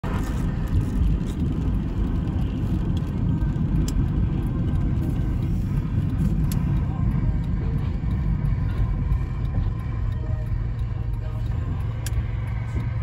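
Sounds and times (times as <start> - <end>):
car cabin low rumble: 0.0 - 13.0
raindrops ticking on windshield: 0.0 - 13.0.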